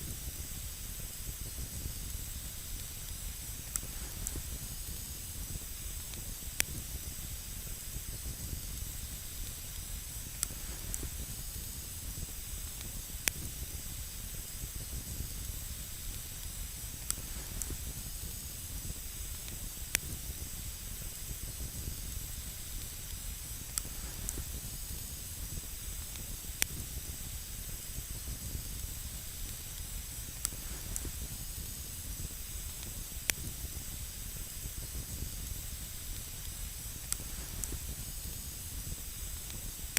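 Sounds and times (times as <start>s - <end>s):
burning wood crackles: 0.0s - 39.9s
campfire flames hissing: 0.0s - 39.9s.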